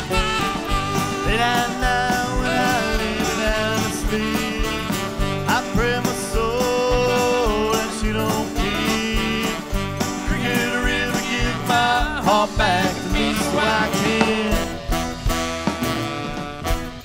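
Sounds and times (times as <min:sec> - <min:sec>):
live country band: 0:00.0 - 0:17.0.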